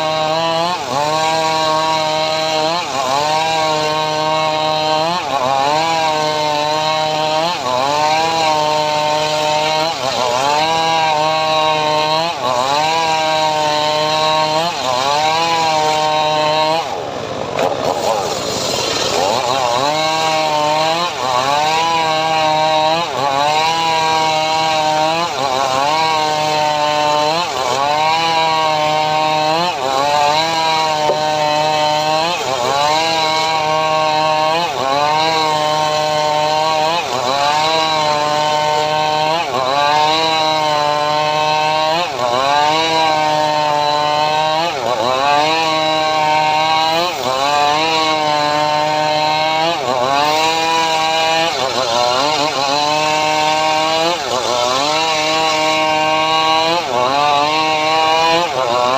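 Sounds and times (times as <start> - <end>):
engine-driven sawmill cutting wood: 0.0 - 58.9.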